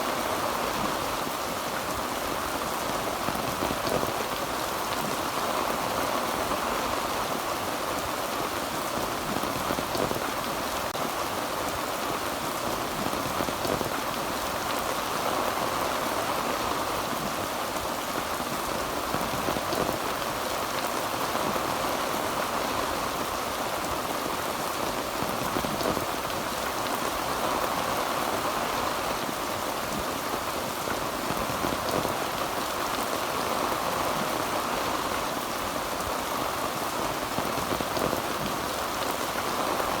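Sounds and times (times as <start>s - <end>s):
heavy rain on a tin roof: 0.0s - 40.0s.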